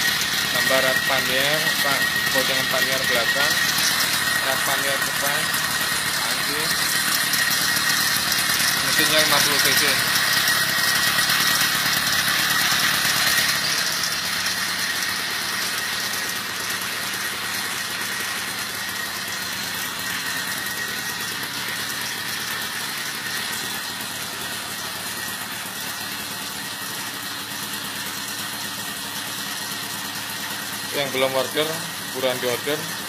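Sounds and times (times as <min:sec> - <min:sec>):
two-stroke engine idling: 0:00.0 - 0:33.0.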